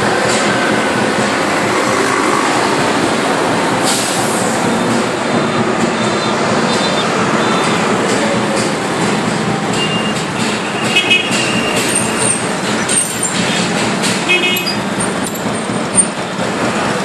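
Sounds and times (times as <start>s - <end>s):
scooter engines: 0.0s - 17.0s
truck engines running: 0.0s - 17.0s.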